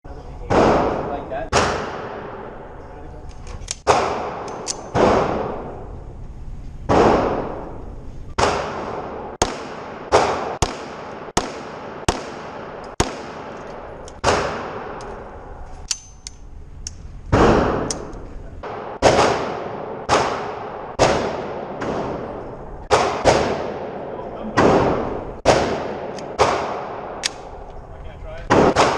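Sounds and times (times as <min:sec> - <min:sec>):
pistol shots echoing indoors: 0:00.5 - 0:02.7, 0:03.8 - 0:05.9, 0:06.9 - 0:07.8, 0:08.4 - 0:16.1, 0:17.3 - 0:27.7, 0:28.5 - 0:28.9.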